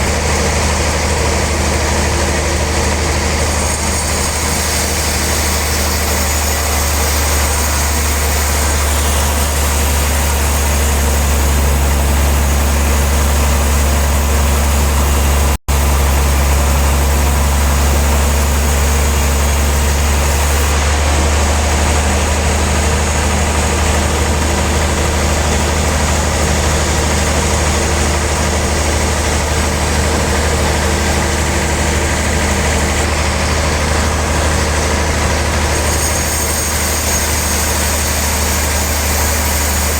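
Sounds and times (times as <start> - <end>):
sawmill machinery humming and hissing: 0.0 - 39.9.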